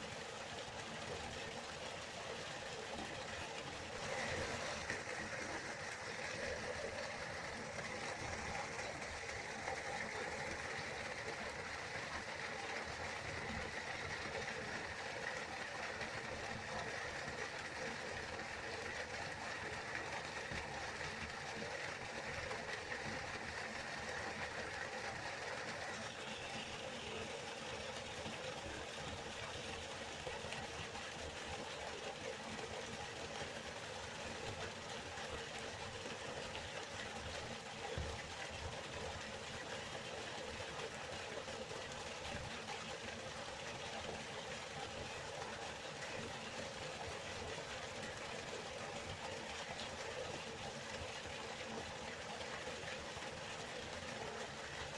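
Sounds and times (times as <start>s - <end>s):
river water flowing: 0.0s - 54.9s.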